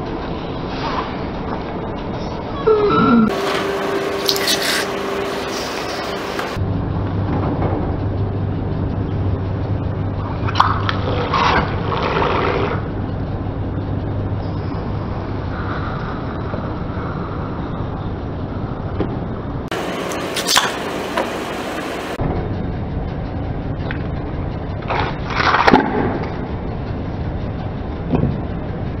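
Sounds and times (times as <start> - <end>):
car engine low hum: 3.2 - 29.0.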